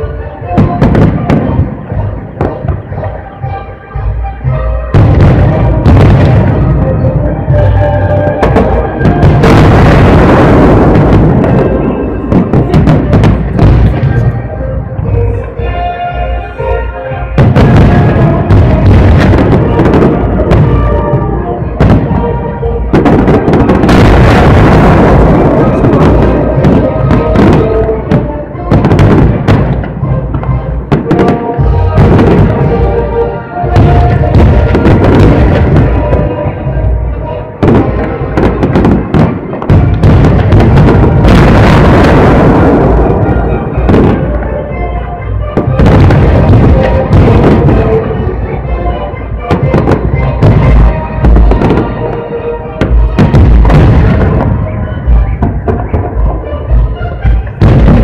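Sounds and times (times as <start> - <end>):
fireworks bursting: 0.0 - 3.3, 4.8 - 58.0
music with sustained tones: 0.0 - 58.0.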